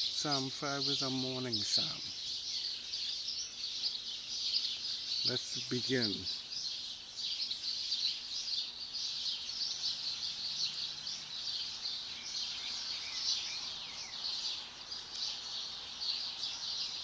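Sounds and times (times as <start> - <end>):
birds chorus twittering: 0.0 - 17.0.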